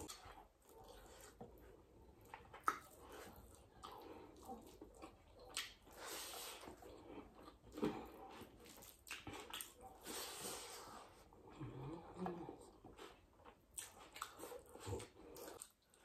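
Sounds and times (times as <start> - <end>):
person chewing and lip smacking: 0.0 - 10.2, 11.0 - 16.0.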